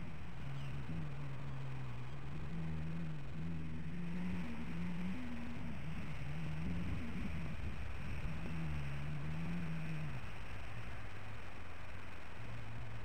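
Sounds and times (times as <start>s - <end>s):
low drone of road traffic: 0.0s - 13.0s
steady hiss: 0.0s - 13.0s.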